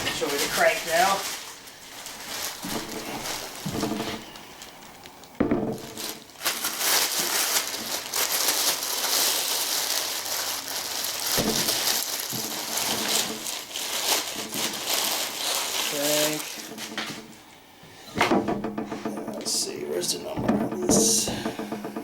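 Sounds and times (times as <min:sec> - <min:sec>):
crackly rustling and crinkling: 0:00.0 - 0:22.0.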